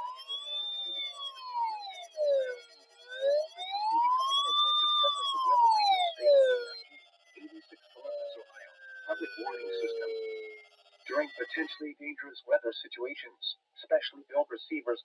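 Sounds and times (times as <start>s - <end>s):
wailing siren: 0.0s - 12.5s.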